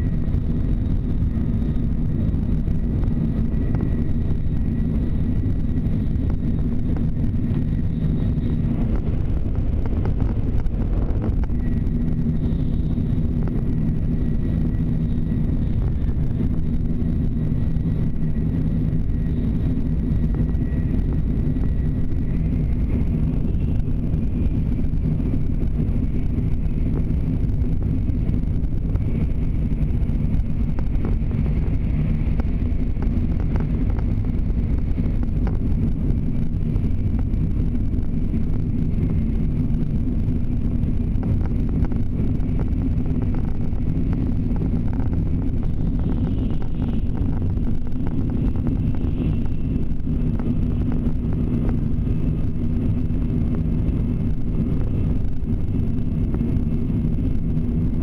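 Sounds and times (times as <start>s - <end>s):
faint high whine: 0.0s - 58.0s
train running noise on rail: 0.0s - 58.0s.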